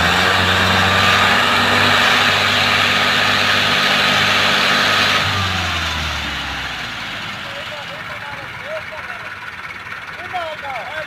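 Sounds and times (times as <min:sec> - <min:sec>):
tractor diesel engine droning: 0:00.0 - 0:11.0.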